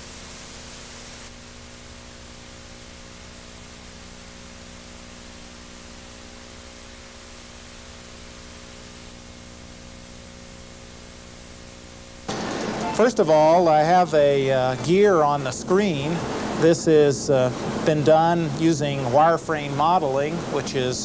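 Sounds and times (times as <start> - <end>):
low mains hum: 0.0 - 21.0
tape hiss: 0.0 - 21.0.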